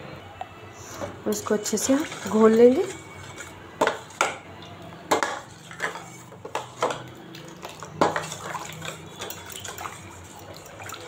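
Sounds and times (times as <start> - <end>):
batter sloshing: 1.3 - 4.5, 5.1 - 11.0.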